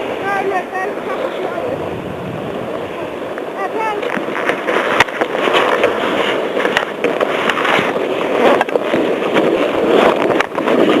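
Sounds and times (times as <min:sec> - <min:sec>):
skis scraping over snow: 0:00.0 - 0:11.0
wind buffeting microphone: 0:00.0 - 0:11.0.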